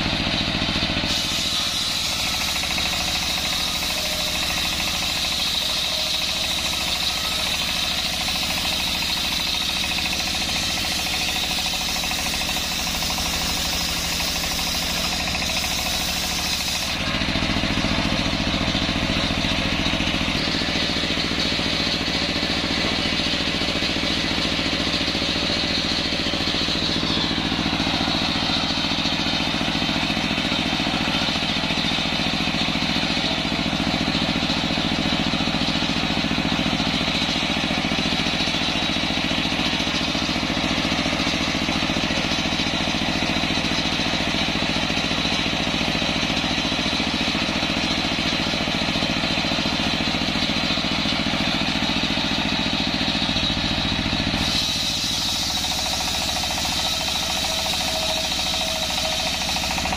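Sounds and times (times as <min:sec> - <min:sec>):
circular saw blade spinning: 0:00.0 - 0:59.9
diesel engine running: 0:00.0 - 0:59.9.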